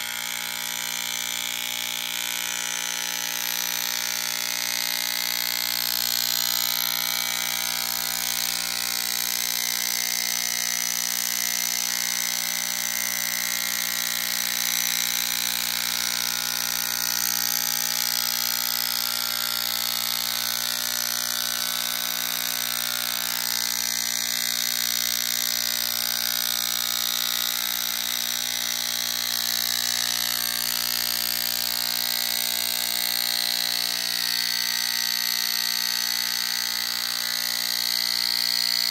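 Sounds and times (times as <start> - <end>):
massager motor buzzing: 0.0 - 38.9.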